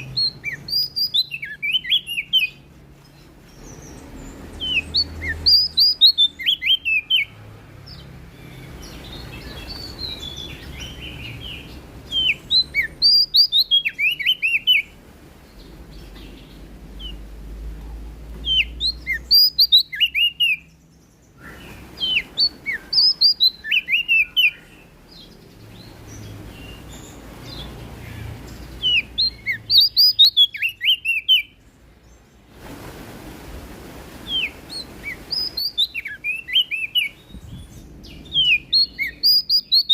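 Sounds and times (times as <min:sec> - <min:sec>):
soft bird twittering: 0:00.0 - 0:17.4, 0:18.4 - 0:32.5, 0:34.2 - 0:39.9
warbler whistled song: 0:00.0 - 0:17.4, 0:18.4 - 0:32.5, 0:34.2 - 0:39.9.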